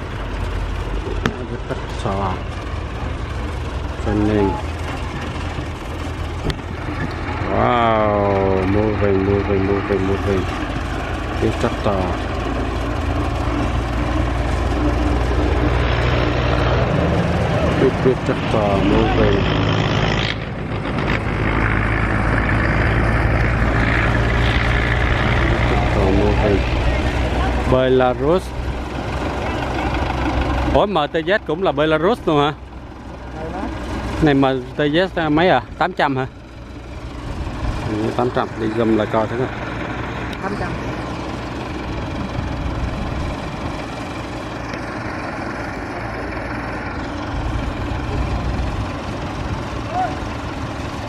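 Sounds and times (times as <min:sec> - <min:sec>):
tractor diesel engine humming: 0:00.0 - 0:51.0.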